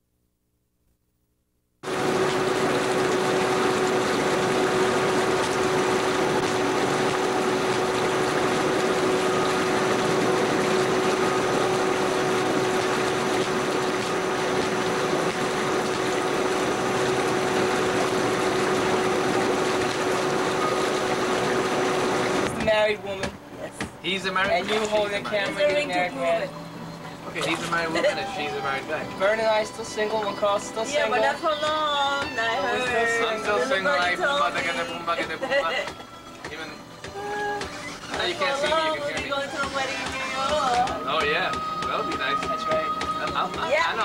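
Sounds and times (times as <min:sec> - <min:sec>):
steady hum: 0:00.1 - 0:44.0
bubbling water of hot tub jets: 0:01.8 - 0:44.0.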